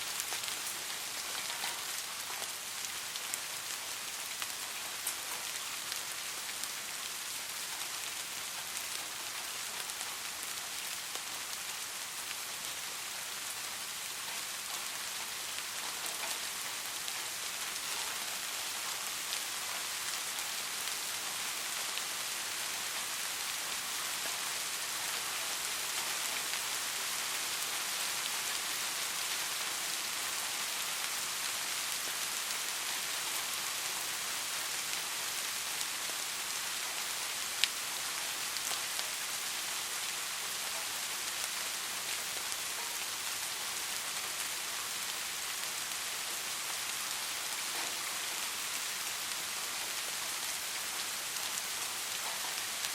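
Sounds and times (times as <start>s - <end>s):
soft steady rainfall: 0.0s - 52.9s.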